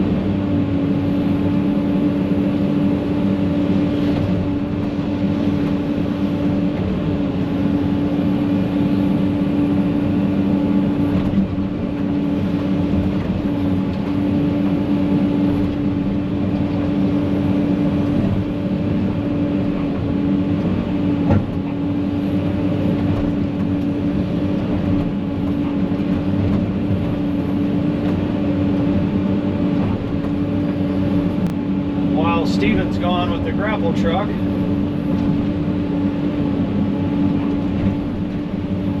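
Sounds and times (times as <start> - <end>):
excavator diesel engine whining: 0.0 - 39.0.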